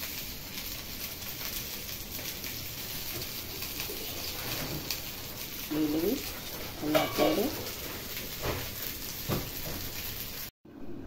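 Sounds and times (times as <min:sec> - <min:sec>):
faint crackles: 0:00.0 - 0:10.5
gas burner hiss: 0:00.0 - 0:10.5.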